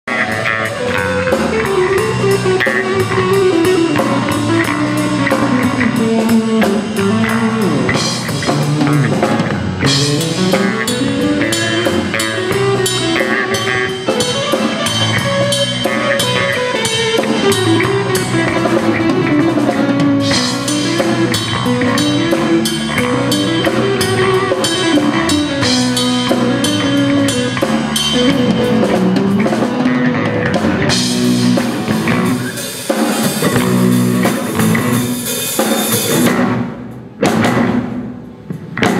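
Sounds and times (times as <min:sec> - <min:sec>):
guitar melody: 0:00.0 - 0:38.9
drum kit beat: 0:00.1 - 0:38.9.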